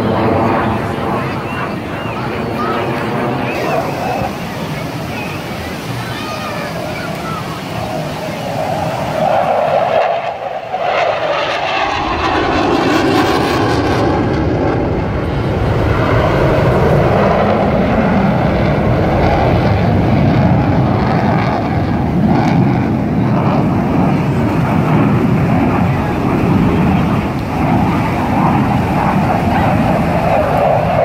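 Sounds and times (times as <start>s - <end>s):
fighter jet roaring: 0.0s - 31.0s.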